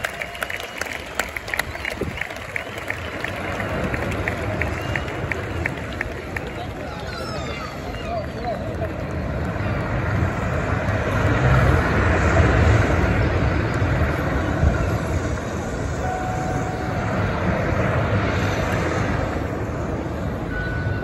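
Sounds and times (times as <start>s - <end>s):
concert crowd noise: 0.0s - 21.0s.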